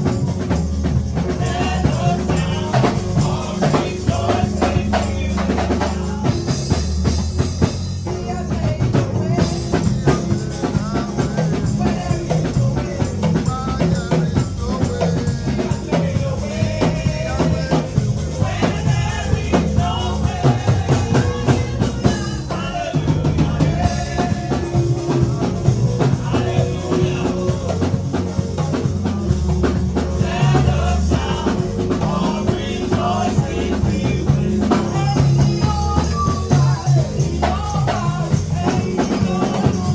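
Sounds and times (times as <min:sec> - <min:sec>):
bass: 0:00.0 - 0:39.9
drum kit beat: 0:00.0 - 0:39.9
voices singing: 0:00.0 - 0:39.9.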